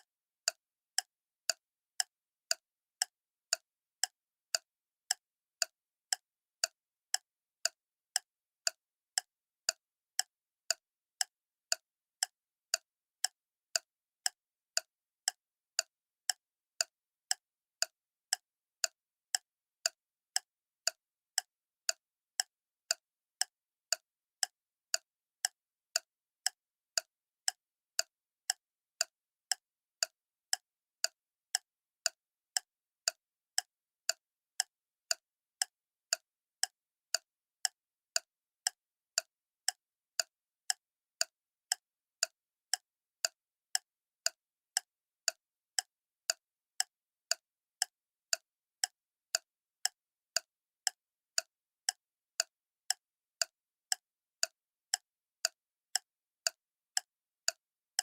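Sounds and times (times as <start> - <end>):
clock ticking: 0.0 - 57.6.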